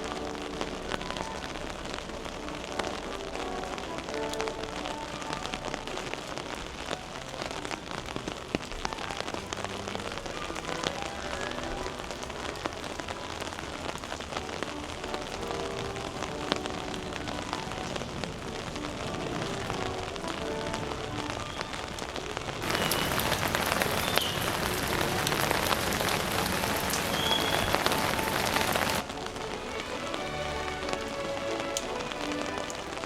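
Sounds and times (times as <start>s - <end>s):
rain on an umbrella: 0.0s - 33.0s.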